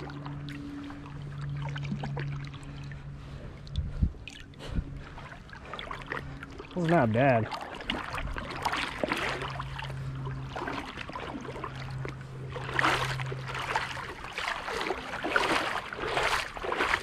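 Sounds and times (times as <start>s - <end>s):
creek water running: 0.0s - 17.0s
steady low hum: 0.0s - 17.0s.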